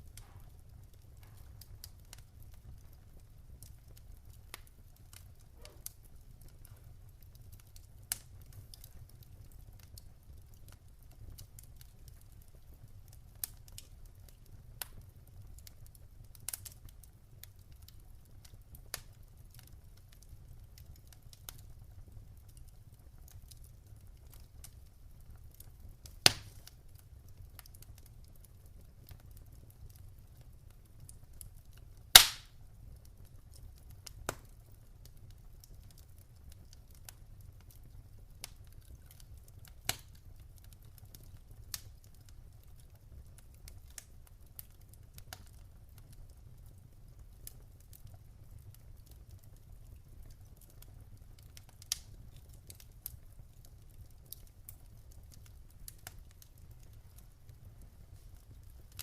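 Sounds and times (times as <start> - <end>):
low fire rumble: 0.0 - 59.0
wood fire popping and snapping: 0.0 - 59.0.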